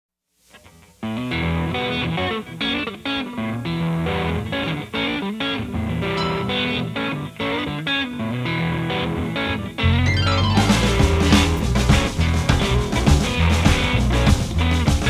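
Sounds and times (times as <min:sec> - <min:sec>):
electric guitar riff: 0:01.2 - 0:14.2.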